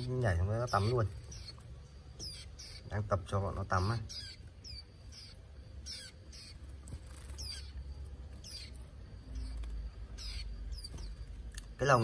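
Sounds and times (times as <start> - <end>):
birds chirping downward slides: 0.0 - 12.0.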